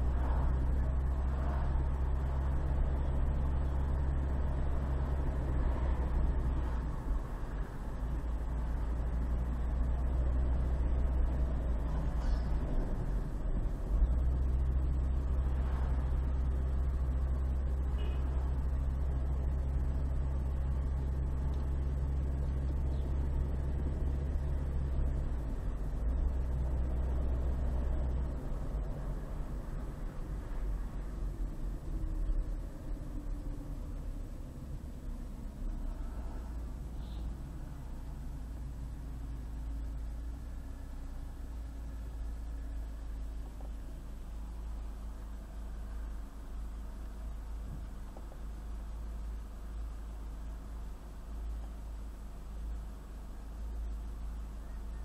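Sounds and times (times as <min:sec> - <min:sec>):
car engine and tyre drone: 0:00.0 - 0:55.0.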